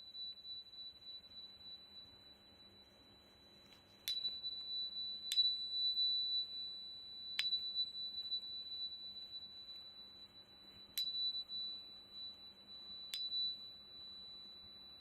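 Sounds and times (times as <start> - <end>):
tuning fork ringing: 0.0 - 15.0
tuning fork tapping crystal: 0.0 - 15.0.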